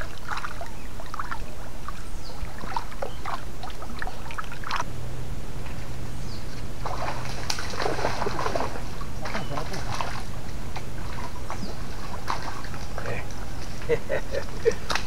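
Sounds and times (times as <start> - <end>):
boots wading through water: 0.0 - 4.9, 5.6 - 15.0
low steady hum: 0.0 - 15.0.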